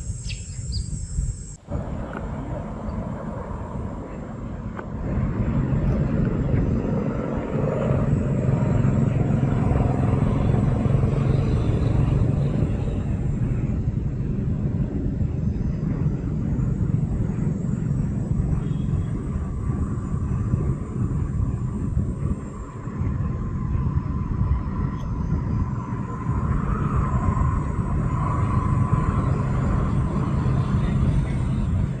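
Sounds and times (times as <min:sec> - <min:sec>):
low rumbling noise: 0:00.0 - 0:32.0.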